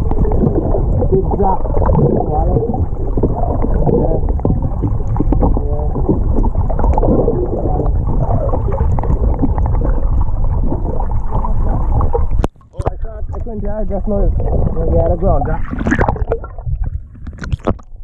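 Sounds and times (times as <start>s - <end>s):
underwater water rushing: 0.0s - 18.0s.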